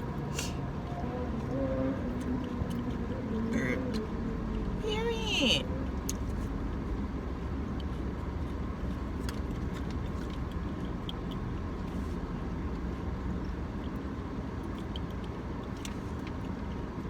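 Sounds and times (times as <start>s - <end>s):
low rumble inside car cabin: 0.0s - 17.0s.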